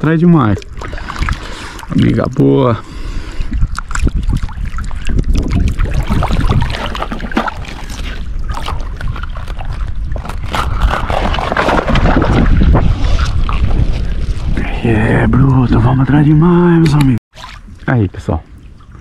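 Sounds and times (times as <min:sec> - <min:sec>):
water sloshing and splashing: 0:00.0 - 0:02.4, 0:03.2 - 0:14.6, 0:16.9 - 0:19.0
wind rumbling on microphone: 0:00.6 - 0:19.0.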